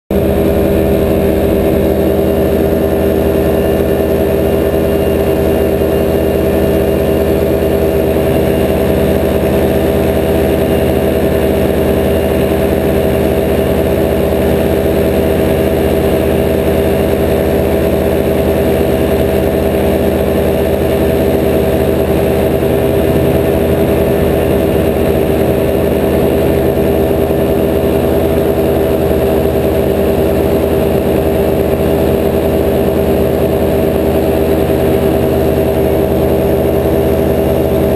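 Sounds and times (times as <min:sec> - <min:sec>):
paramotor engine and propeller: 0:00.1 - 0:37.9.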